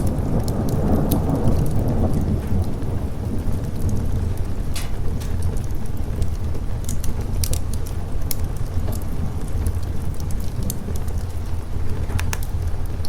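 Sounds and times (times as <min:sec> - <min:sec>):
continuous low rumble: 0:00.0 - 0:13.0
steady rain: 0:00.0 - 0:13.0
wood fire crackling: 0:00.0 - 0:13.0.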